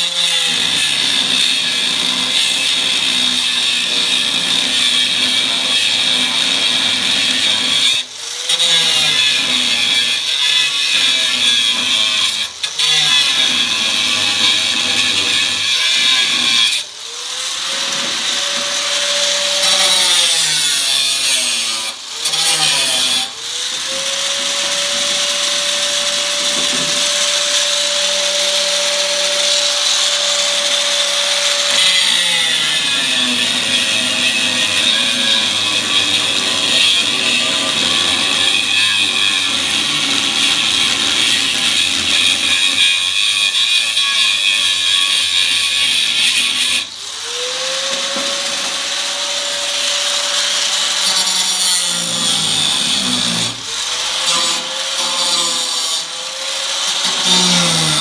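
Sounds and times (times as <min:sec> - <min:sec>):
power tool grinding metal: 0:00.0 - 0:58.0.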